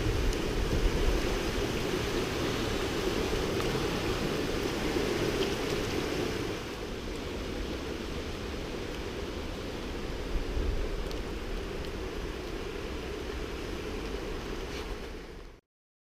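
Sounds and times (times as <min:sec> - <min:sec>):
river rushing: 0:00.0 - 0:15.4
wind rumble on microphone: 0:00.0 - 0:15.6.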